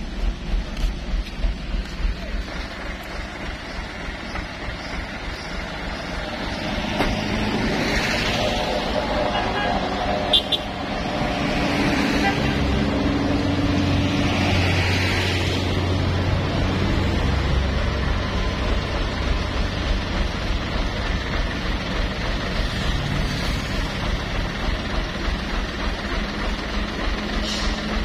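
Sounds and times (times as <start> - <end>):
truck engine hum: 0.0 - 28.0
vehicles passing: 0.0 - 28.0.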